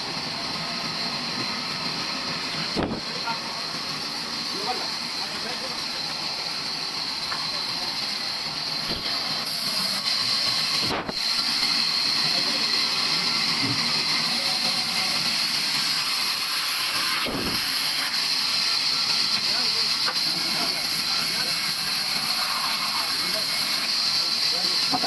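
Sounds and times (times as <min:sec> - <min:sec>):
saw cutting wooden beam: 0:00.0 - 0:25.0.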